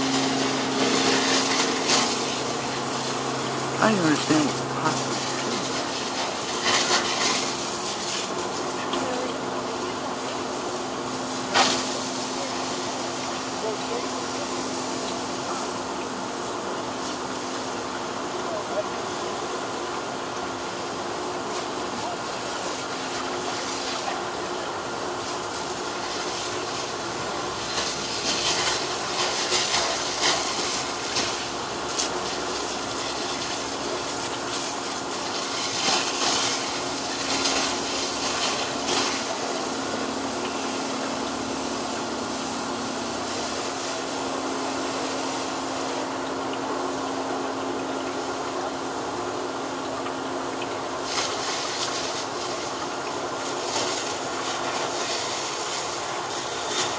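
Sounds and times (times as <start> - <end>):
engine droning: 0.0 - 51.1
fire hose spraying water: 0.0 - 56.9.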